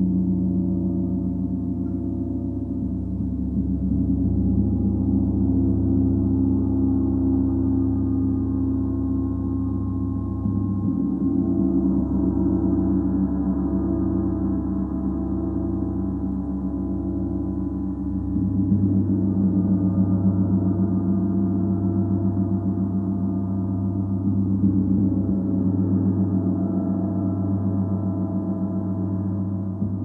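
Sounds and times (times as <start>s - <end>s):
gong hum with wavering pulse: 0.0s - 30.0s.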